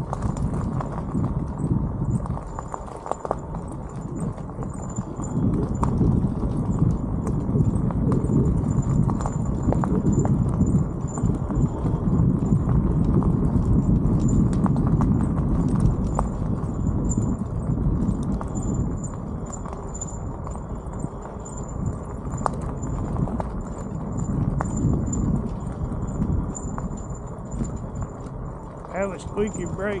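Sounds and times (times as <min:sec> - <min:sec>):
bicycle tyres crunching on gravel: 0:00.0 - 0:30.0.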